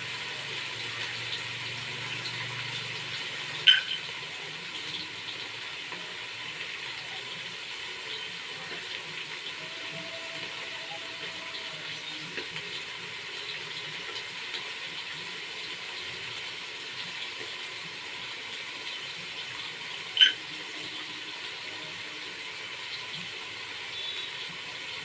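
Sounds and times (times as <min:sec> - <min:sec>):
running water hiss: 0:00.0 - 0:25.0.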